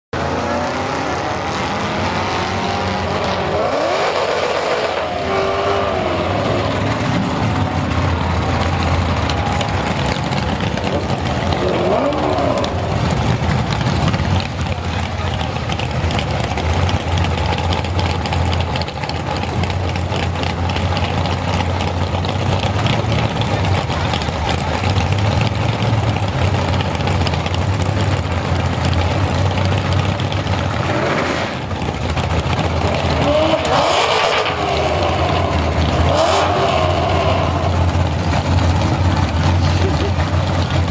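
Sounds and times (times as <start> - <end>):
drag car engine revving: 0.2 - 40.9.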